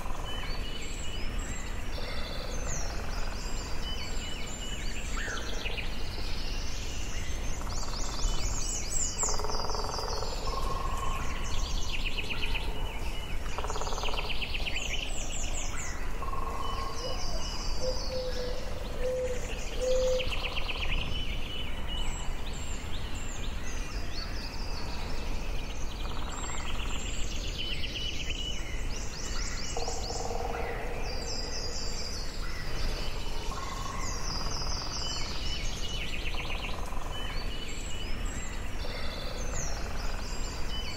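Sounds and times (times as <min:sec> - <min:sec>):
low background noise: 0:00.0 - 0:40.9
songbirds singing and calling: 0:00.0 - 0:40.9.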